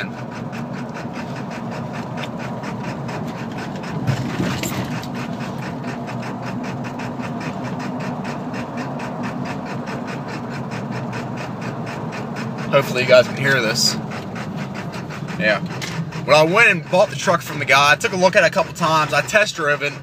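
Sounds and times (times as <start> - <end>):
diesel truck engine running rough: 0.0 - 20.0.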